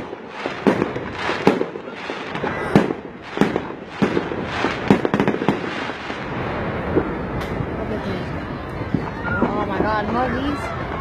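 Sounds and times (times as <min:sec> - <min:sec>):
fireworks bangs with crackle: 0:00.0 - 0:11.0.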